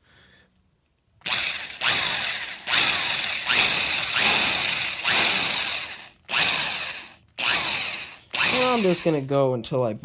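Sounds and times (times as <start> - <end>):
power drill boring into wood: 1.2 - 9.4.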